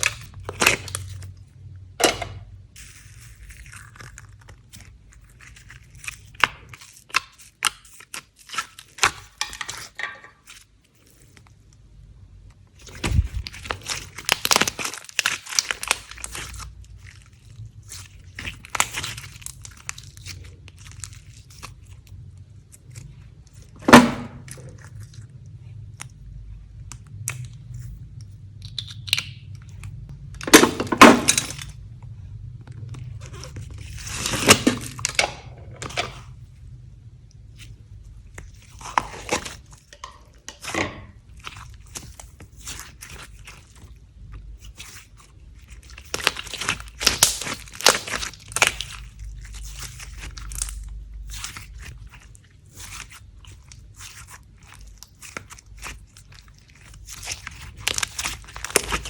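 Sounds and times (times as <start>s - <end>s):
faint low hum: 0.0s - 59.0s
slime crackling and crunching: 0.0s - 59.0s
slime squelching: 0.0s - 59.0s.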